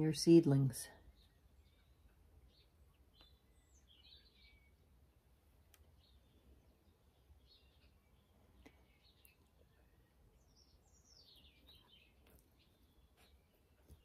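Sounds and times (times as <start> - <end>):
faint bird chirps: 1.0 - 5.0, 5.7 - 14.0.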